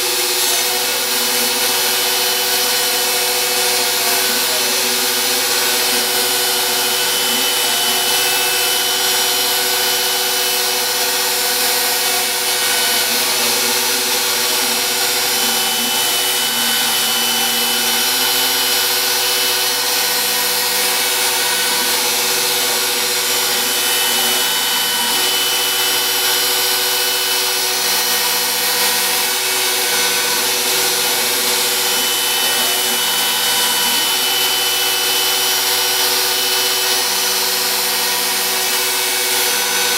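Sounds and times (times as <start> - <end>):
cutter chewing through board: 0.0 - 39.9
router motor whining: 0.0 - 39.9.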